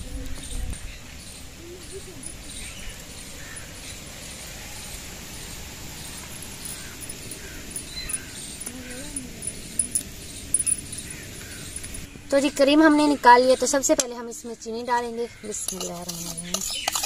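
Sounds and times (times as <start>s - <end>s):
steady background hiss: 0.0s - 15.1s
birds calling: 0.0s - 17.0s.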